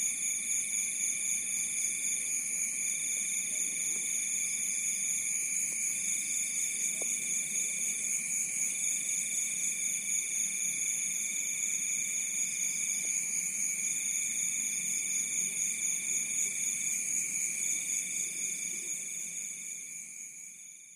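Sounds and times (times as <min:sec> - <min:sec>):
crickets trilling: 0:00.0 - 0:20.8.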